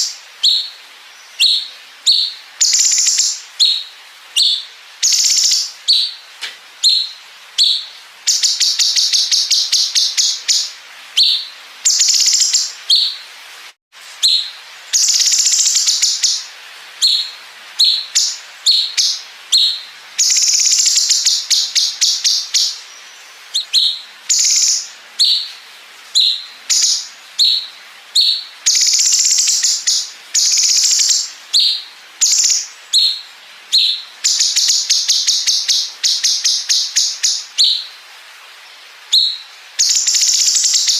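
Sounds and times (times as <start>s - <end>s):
bulbul singing: 0.0s - 13.2s, 14.2s - 37.9s, 39.1s - 40.9s.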